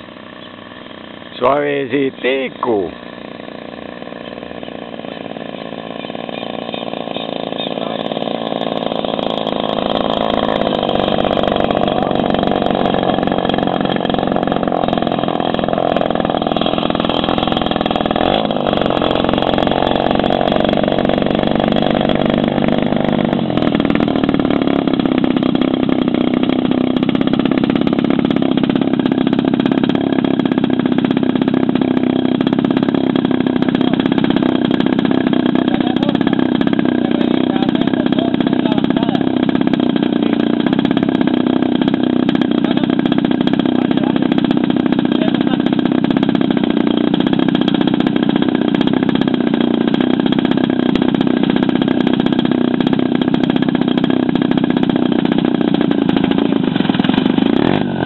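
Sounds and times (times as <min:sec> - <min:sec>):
model aeroplane engine running: 0:00.0 - 0:58.0.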